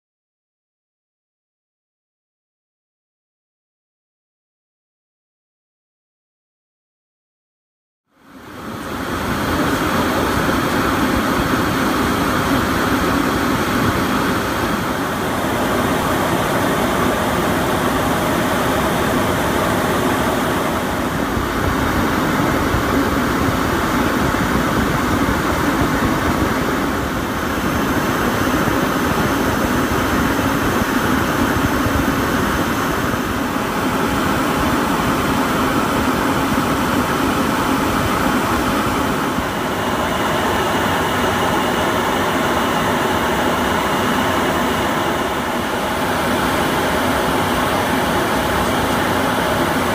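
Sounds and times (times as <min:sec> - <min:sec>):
jet cabin drone: 0:08.1 - 0:49.9.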